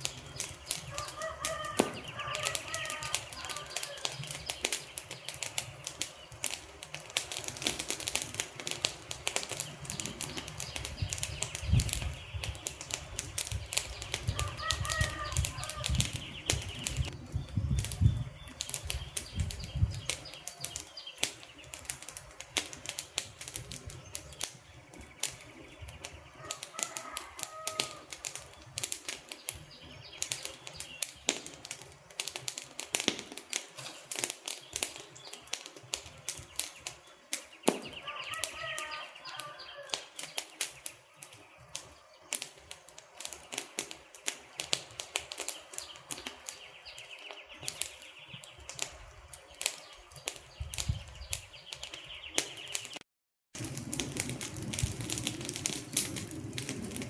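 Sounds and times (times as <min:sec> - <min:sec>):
low rush of flame: 0:00.0 - 0:51.8, 0:53.6 - 0:57.0
logs popping: 0:00.0 - 0:53.0, 0:53.6 - 0:57.0
wood fire crackling: 0:00.0 - 0:53.0, 0:53.6 - 0:57.0.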